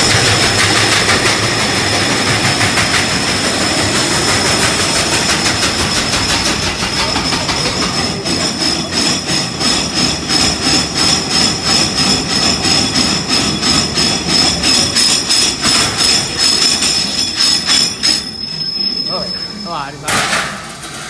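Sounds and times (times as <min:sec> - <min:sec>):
machine high whine: 0:01.6 - 0:20.2.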